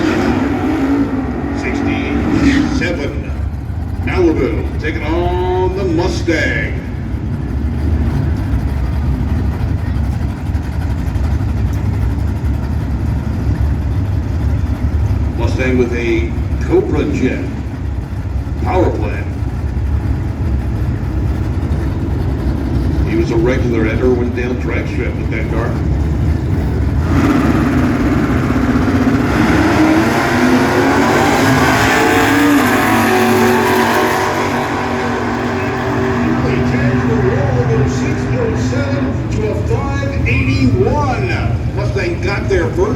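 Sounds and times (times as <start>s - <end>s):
race car engines rumbling: 0.0s - 42.9s.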